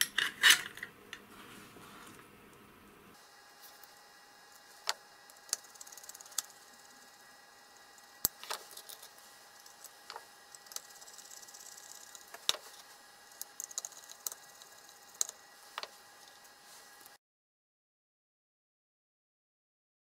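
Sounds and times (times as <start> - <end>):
faint steady hum: 0.0 - 17.2.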